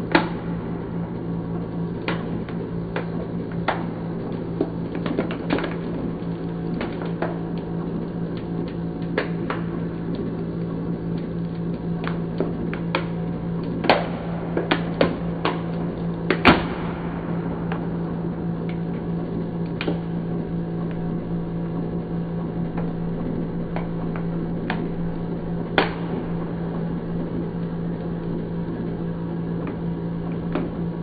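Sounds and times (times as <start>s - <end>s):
plastic bottle crackling and popping: 0.0s - 29.0s.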